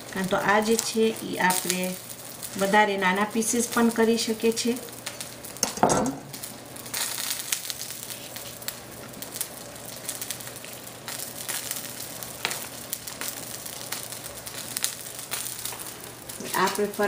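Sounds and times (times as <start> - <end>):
oil sizzling and crackling in a pan: 0.0 - 17.0.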